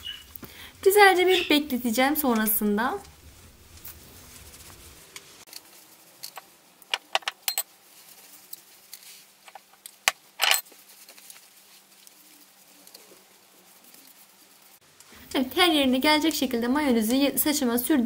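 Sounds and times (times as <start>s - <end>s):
gloved hands rustling and crinkling: 0.0s - 18.0s.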